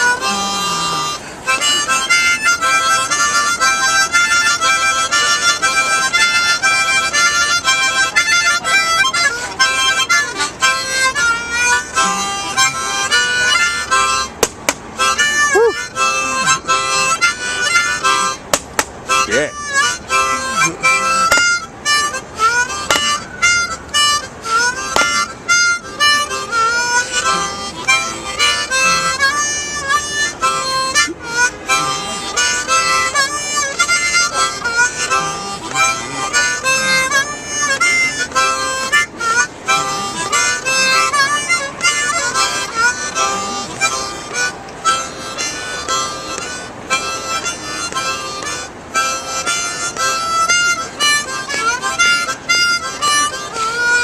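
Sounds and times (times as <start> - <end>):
blues harmonica wailing: 0.0 - 54.0.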